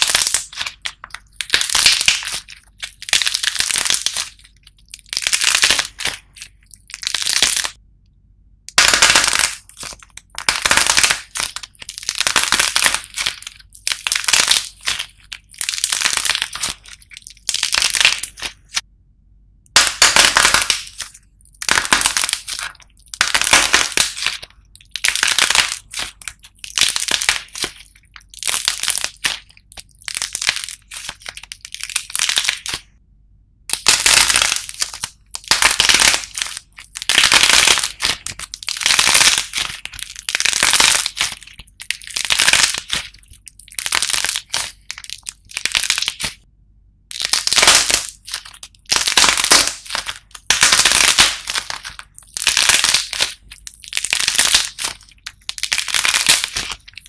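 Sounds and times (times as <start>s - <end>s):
dried clay crunching and crackling: 0.0s - 7.8s, 8.9s - 18.8s, 19.9s - 32.8s, 33.7s - 46.5s, 47.1s - 57.0s.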